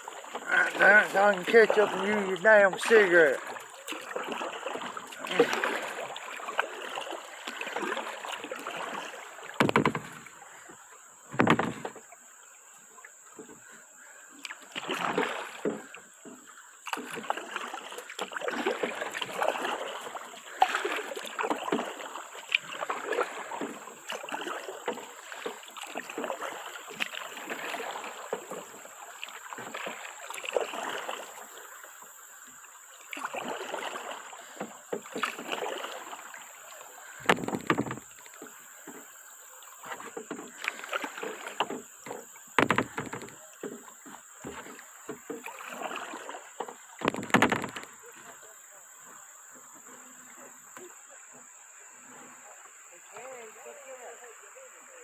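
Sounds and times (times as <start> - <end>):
paddle splashing in water: 0.0 - 55.0.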